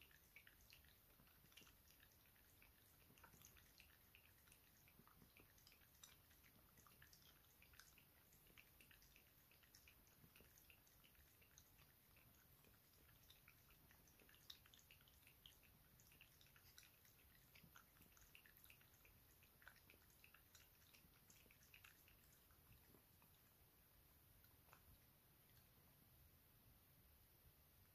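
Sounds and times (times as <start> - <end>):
dog lapping milk: 0.0 - 23.5.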